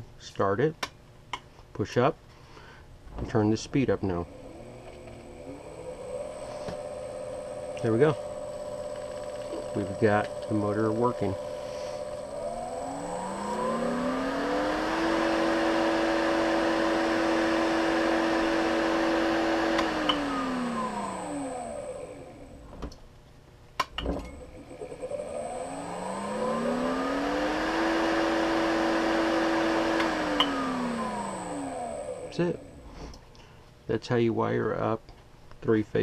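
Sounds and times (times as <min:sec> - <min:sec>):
electric motor whining: 0:03.2 - 0:23.0, 0:24.1 - 0:33.3.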